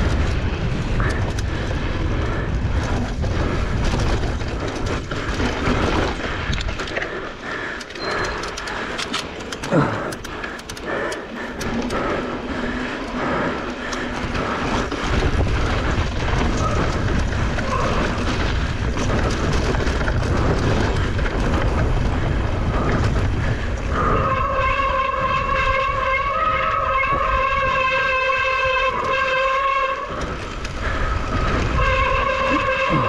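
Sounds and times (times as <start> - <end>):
bike rattling: 0.0 - 33.0
bike tyres rolling over dirt: 0.0 - 33.0
wind buffeting microphone: 0.0 - 33.0.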